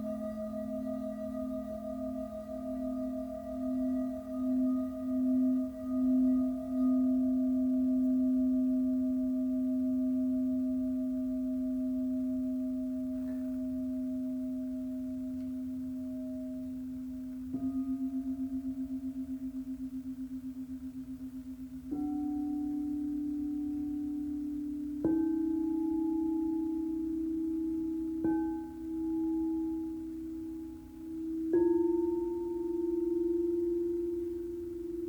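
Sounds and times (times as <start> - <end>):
crystal singing bowl ringing: 0.0 - 35.0
singing bowl strike with pulsing beat: 0.0 - 35.0.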